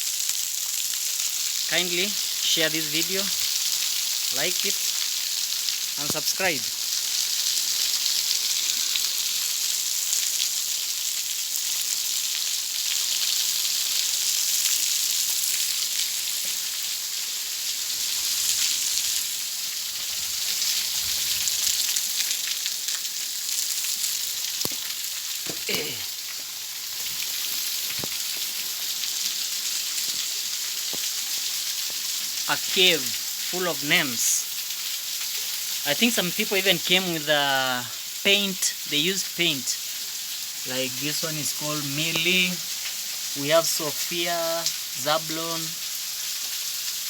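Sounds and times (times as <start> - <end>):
waterfall spray hissing: 0.0 - 47.0.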